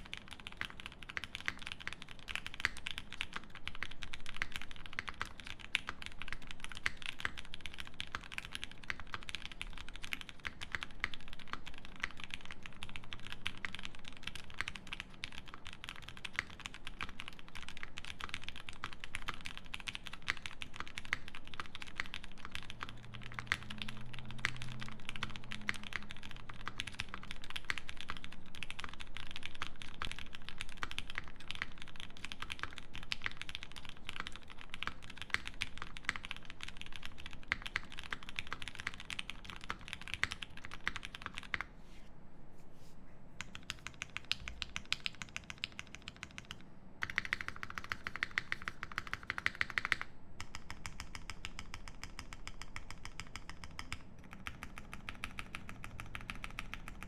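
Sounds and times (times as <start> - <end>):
typing on mechanical keyboard: 0.0 - 41.7, 43.4 - 57.0.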